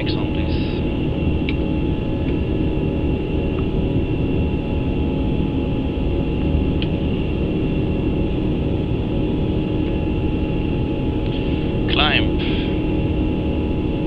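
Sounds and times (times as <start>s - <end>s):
aircraft cabin low rumble: 0.0s - 14.0s
faint steady whines: 0.0s - 14.0s.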